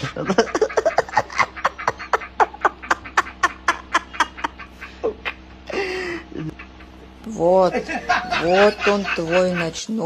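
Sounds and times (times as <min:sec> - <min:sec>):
man cackling laughter: 0:00.0 - 0:09.8.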